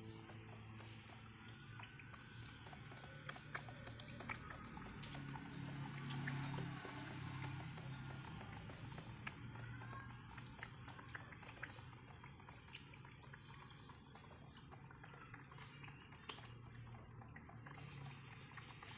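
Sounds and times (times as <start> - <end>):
faint water sounds: 0.0 - 18.9.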